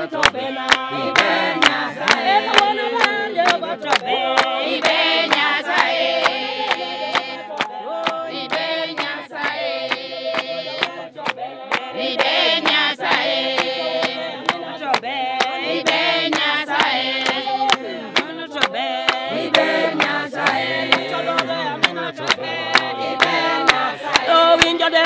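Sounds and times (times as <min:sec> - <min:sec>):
group singing in chorus: 0:00.0 - 0:25.0
steady handclaps: 0:00.0 - 0:25.0.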